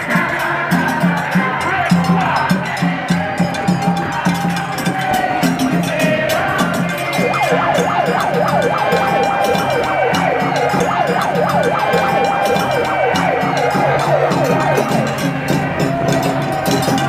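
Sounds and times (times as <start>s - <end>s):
emergency sirens yelping: 0.0s - 17.0s.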